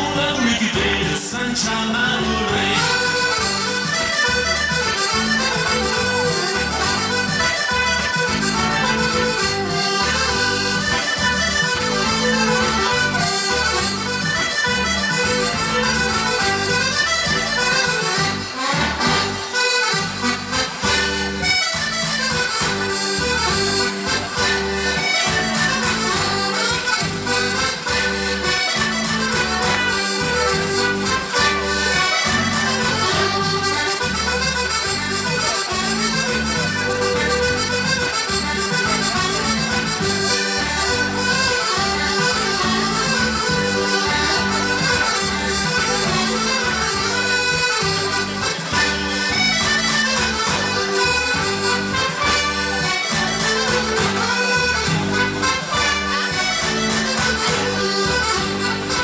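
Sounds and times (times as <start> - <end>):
accordion melody: 0.0 - 59.0
bass and beat accompaniment: 0.0 - 59.0.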